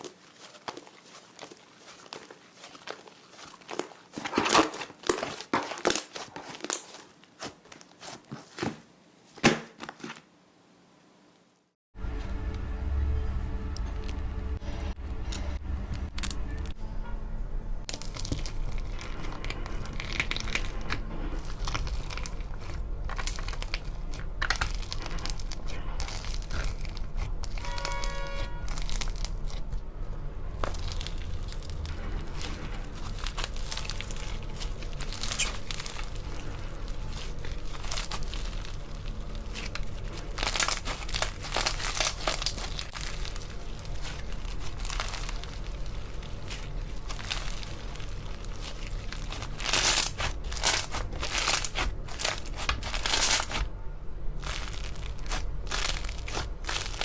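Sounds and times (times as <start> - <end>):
slime crinkling and crackling: 0.0 - 10.3, 17.9 - 57.0.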